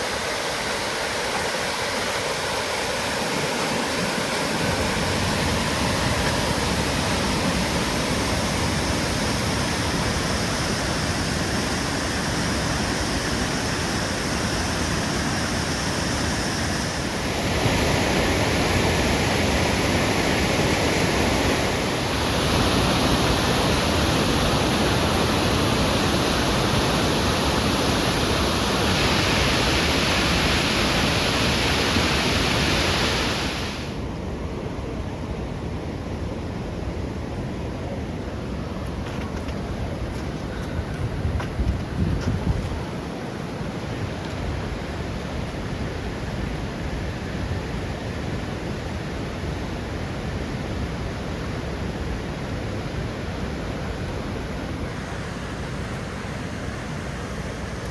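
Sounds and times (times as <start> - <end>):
waterfall roaring: 0.0 - 34.1, 36.3 - 57.9.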